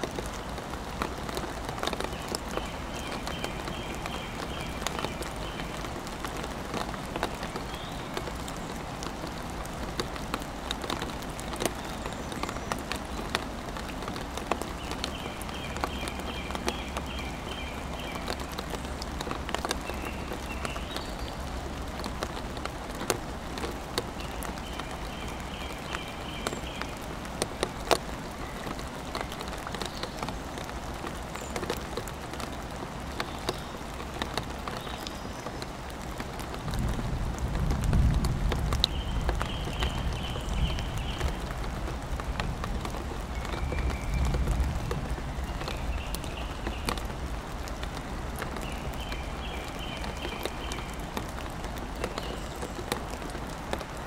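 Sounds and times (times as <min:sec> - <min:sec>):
raindrops ticking: 0:00.0 - 0:54.0
steady rain: 0:00.0 - 0:54.0.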